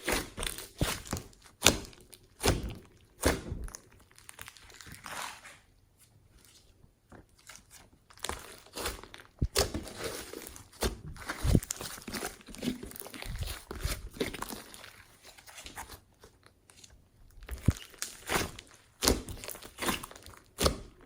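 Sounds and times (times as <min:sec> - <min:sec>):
hands squishing slime: 0:00.0 - 0:05.6, 0:06.3 - 0:21.0.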